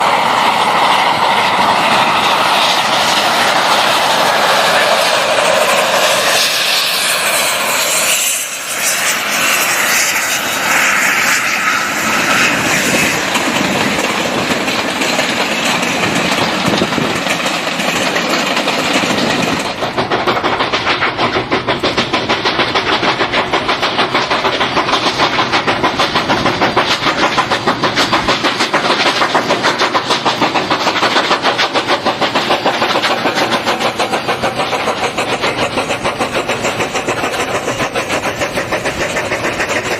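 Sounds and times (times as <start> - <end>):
rhythmic train wheel beat: 0.0 - 39.9
train rushing: 0.0 - 39.9.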